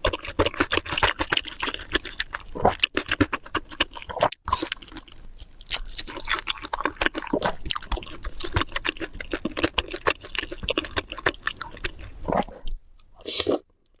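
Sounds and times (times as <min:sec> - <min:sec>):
wet chewing and mouth smacks: 0:00.0 - 0:14.0.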